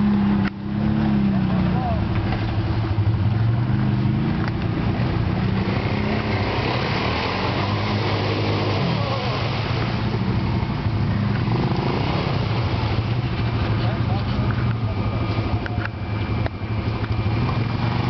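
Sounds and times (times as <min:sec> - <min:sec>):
atv engine running under load: 0:00.0 - 0:18.0
mud and water splashing: 0:00.0 - 0:18.0.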